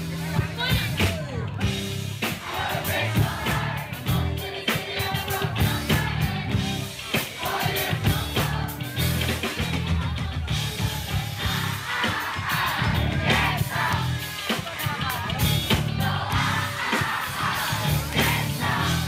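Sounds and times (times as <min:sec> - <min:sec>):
bass guitar: 0:00.0 - 0:19.0
drum kit beat: 0:00.0 - 0:19.0
keyboard: 0:00.0 - 0:19.0.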